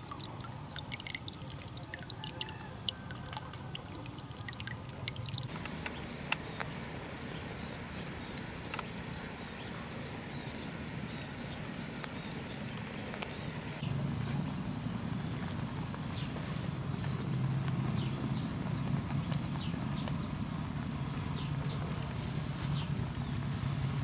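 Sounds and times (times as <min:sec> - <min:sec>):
burning sticks crackling and popping: 0:00.0 - 0:24.0
stream trickling: 0:00.0 - 0:24.0
wood fire hissing: 0:00.0 - 0:24.0.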